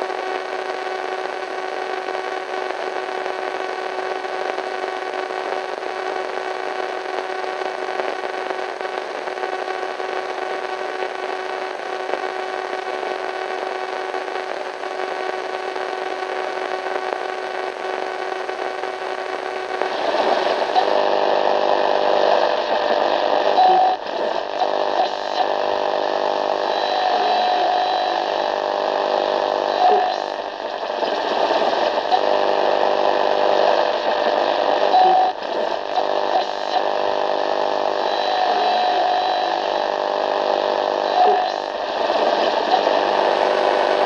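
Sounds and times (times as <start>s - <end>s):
buzzing hum: 0.0s - 44.0s
radio static hiss: 0.0s - 44.0s.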